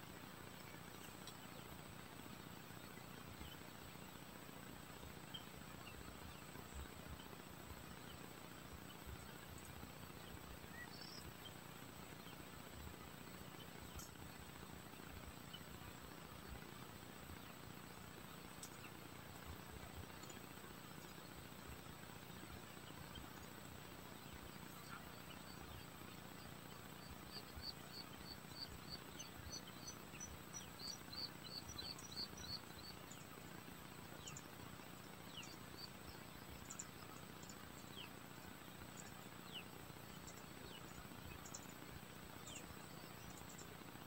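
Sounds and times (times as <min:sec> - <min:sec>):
small bird chirping: 0:00.0 - 0:44.0
high insect whine: 0:00.1 - 0:44.0.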